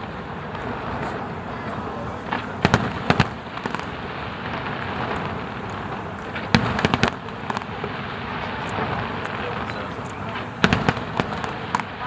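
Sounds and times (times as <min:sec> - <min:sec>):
firework bang: 0:00.0 - 0:12.0
firework cracks: 0:00.0 - 0:12.0
fireworks crackling rumble: 0:00.0 - 0:12.0.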